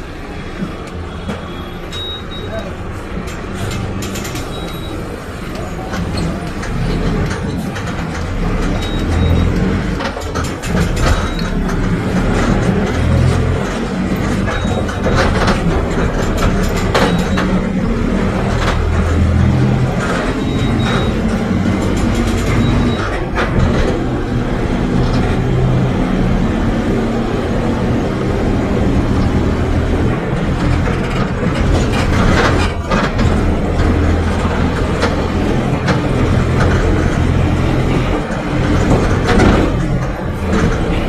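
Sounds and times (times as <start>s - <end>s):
bus body rattling: 0.0s - 41.0s
bus diesel engine droning: 0.0s - 41.0s.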